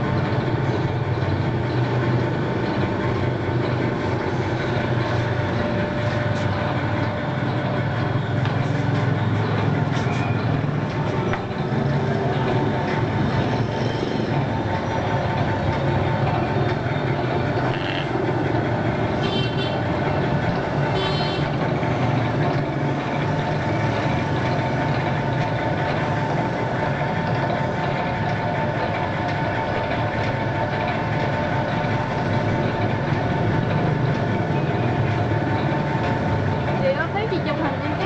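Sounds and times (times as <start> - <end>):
machine humming and whining: 0.0 - 38.0.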